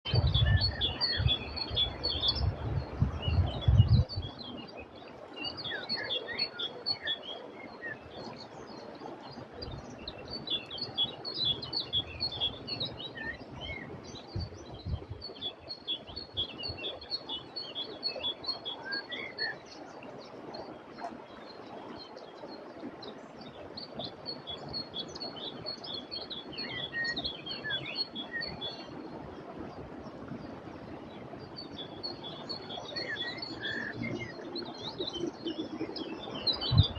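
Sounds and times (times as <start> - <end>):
songbirds chirping and twittering: 0.0 - 36.9
river flowing: 0.6 - 36.9.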